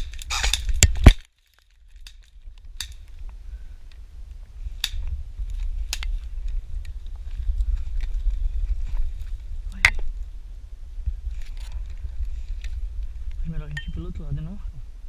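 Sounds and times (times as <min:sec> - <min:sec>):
wind on microphone: 0:02.4 - 0:15.0.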